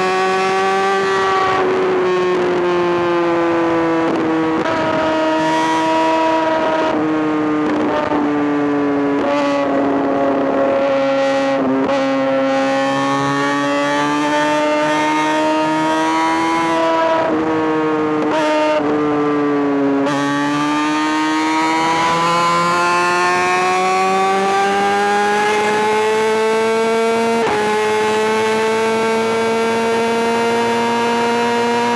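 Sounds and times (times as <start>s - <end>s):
motorcycle engine at high revs: 0.0s - 31.9s.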